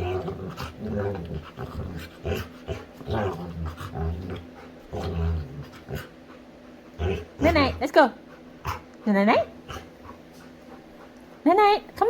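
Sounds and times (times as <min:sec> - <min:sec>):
dog play growling: 0:00.0 - 0:11.4.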